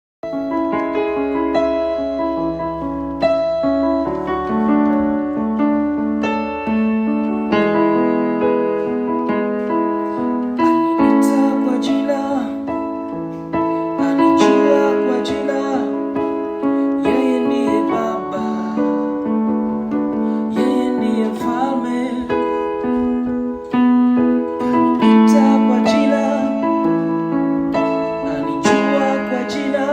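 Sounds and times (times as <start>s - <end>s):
slow piano melody: 0.2s - 29.9s.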